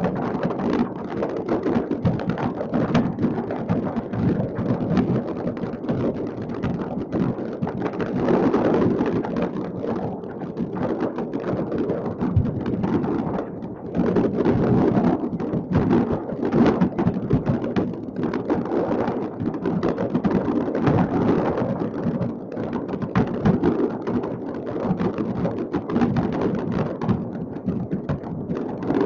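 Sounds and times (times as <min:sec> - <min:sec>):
distant fireworks barrage: 0:00.0 - 0:29.0.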